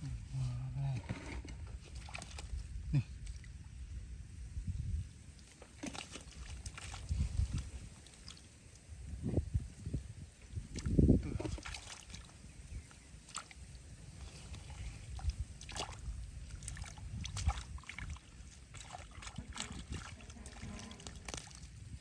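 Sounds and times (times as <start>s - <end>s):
shallow water sloshing and splashing: 1.1s - 3.8s, 5.2s - 22.0s.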